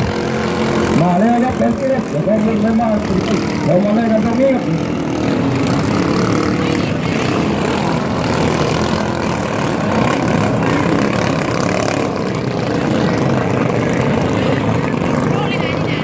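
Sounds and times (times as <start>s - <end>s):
racing boat engines droning: 0.0s - 16.0s.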